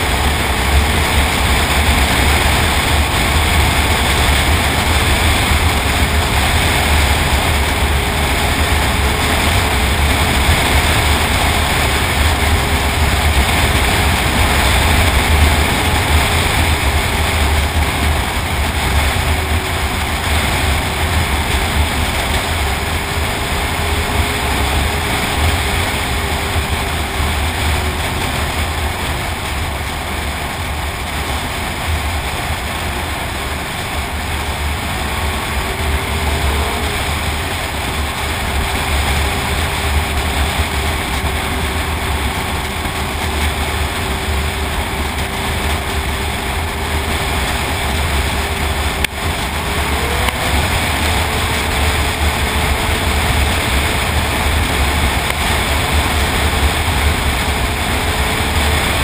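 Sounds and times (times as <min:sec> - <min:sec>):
snowmobile engine running: 0:00.0 - 0:59.0
track and rushing air noise: 0:00.0 - 0:59.0.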